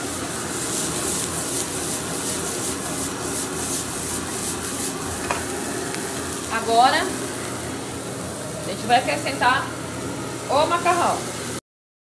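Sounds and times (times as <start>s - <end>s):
food sizzling in a frying pan: 0.0s - 11.6s.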